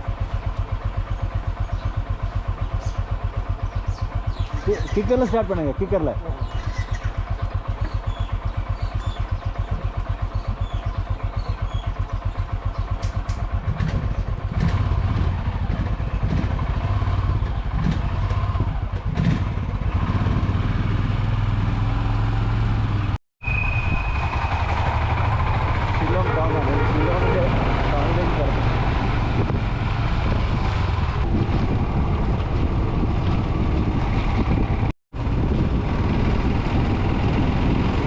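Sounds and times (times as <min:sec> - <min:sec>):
motorcycle engine idling: 0:00.0 - 0:21.4, 0:24.0 - 0:38.0
motorcycle engines running: 0:00.0 - 0:38.0.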